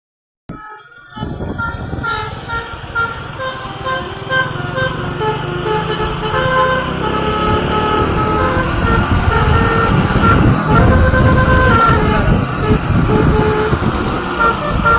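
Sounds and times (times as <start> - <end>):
musical vehicle horn tune: 0.5 - 14.9
vehicle engine running: 1.2 - 14.9.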